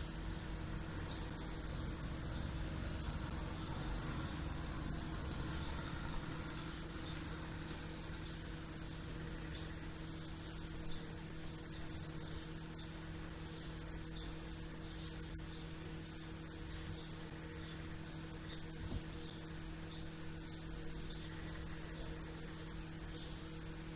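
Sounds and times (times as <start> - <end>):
small birds chirping: 0.0 - 23.8
electrical hum and hiss: 0.0 - 23.9.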